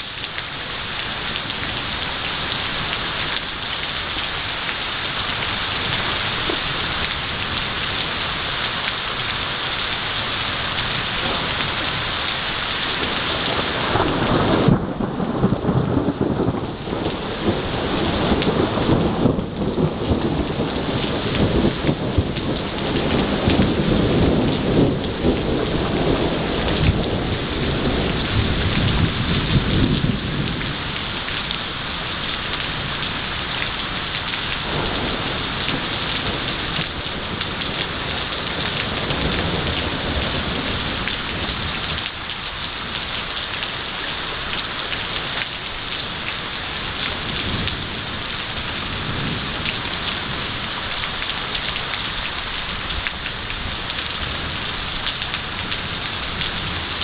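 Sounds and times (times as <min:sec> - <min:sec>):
heavy rain falling: 0:00.0 - 0:57.0
low rumble of thunder: 0:10.0 - 0:57.0.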